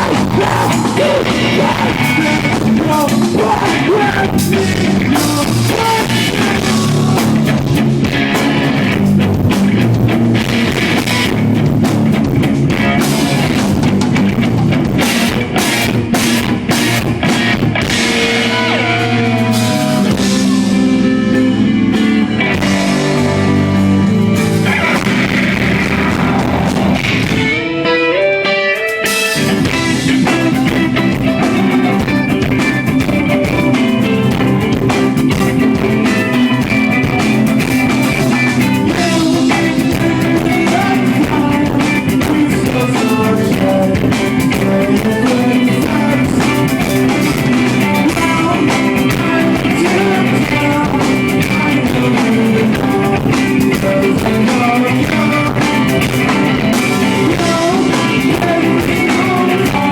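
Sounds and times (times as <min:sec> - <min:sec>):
live rock band playing: 0:00.0 - 0:59.9
rising guitar run: 0:00.0 - 0:59.9.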